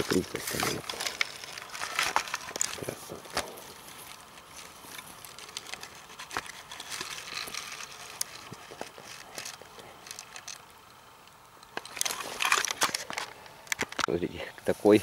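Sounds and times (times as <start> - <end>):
grass and stems rustling: 0.0 - 15.0.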